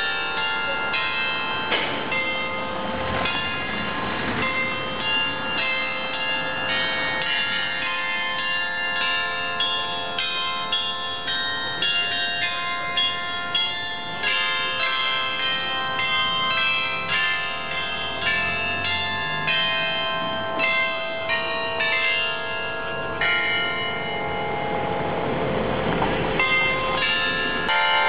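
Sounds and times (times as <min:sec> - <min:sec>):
carillon bells playing melody: 0:00.0 - 0:28.0.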